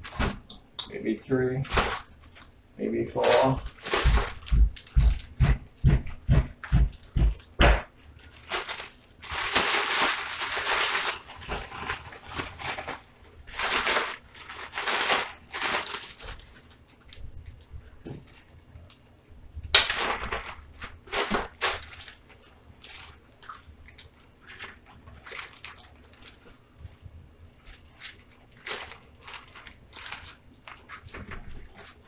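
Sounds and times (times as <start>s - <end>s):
plastic bag rustling and crinkling: 0.0s - 18.9s, 19.6s - 32.0s.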